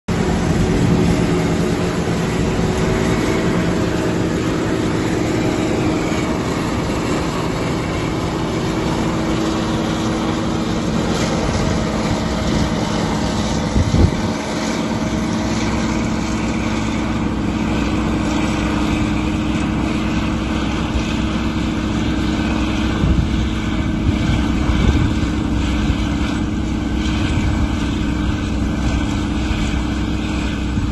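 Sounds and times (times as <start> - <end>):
harvester engine drone: 0.1 - 30.9.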